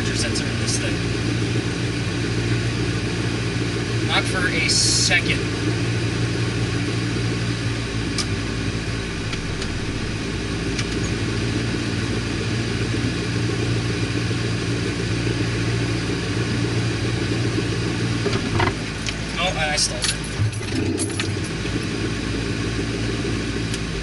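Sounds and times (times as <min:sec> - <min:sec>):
car engine droning at low revs: 0:00.0 - 0:24.0.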